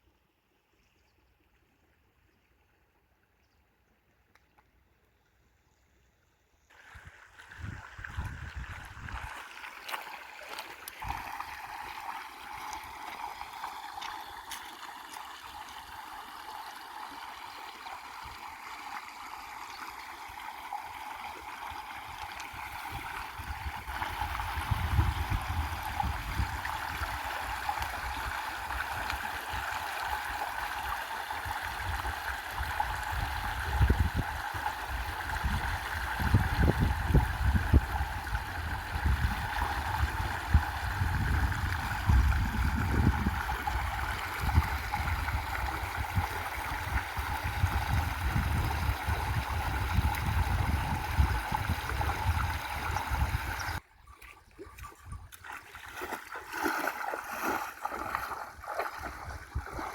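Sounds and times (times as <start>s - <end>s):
river water gurgling: 6.7s - 59.9s.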